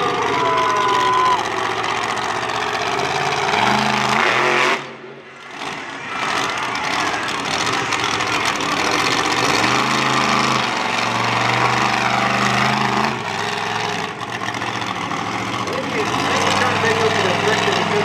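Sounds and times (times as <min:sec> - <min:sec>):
monster truck engine running: 0:00.0 - 0:18.0.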